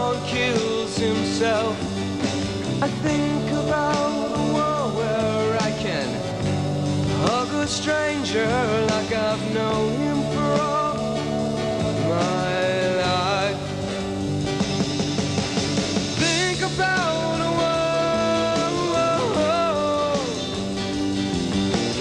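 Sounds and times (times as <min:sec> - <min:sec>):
man singing: 0:00.0 - 0:06.5, 0:07.1 - 0:14.1, 0:16.2 - 0:20.8
rock song with full band: 0:00.0 - 0:22.0.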